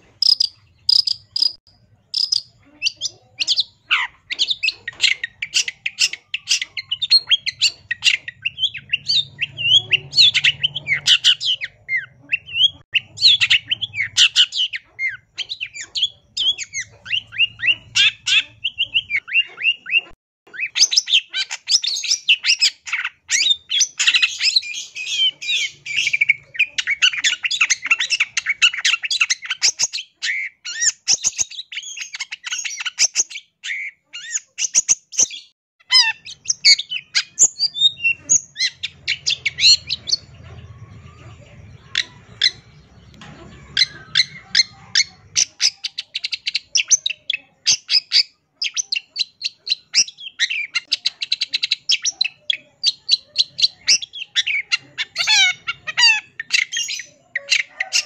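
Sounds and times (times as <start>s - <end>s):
bird singing chattering song: 0.0s - 58.0s.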